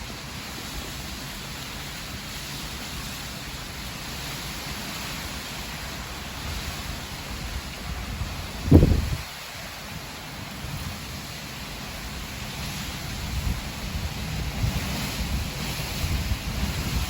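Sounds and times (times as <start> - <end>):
heavy rain: 0.0 - 17.0
wind: 0.0 - 17.0.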